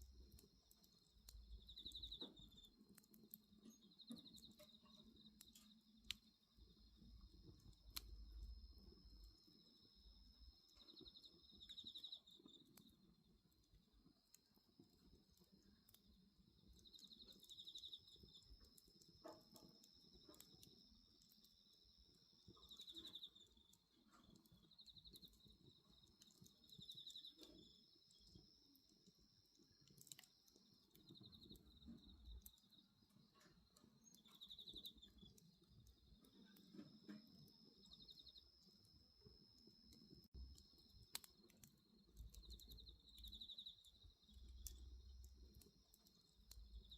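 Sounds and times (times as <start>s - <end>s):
crickets trilling and chirping: 0.0s - 46.9s
wood fire crackling: 0.0s - 46.9s.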